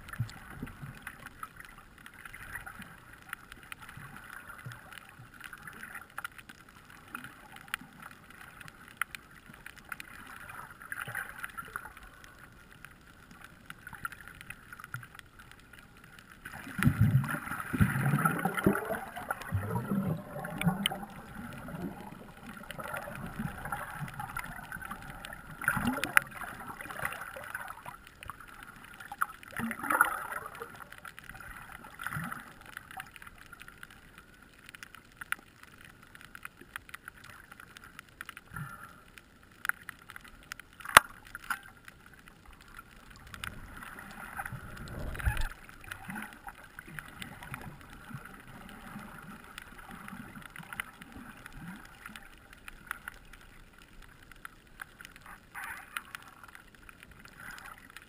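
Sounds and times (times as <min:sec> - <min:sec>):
water sloshing and rushing: 0:00.0 - 0:33.9, 0:40.7 - 0:58.0
small crackles: 0:00.0 - 0:58.0.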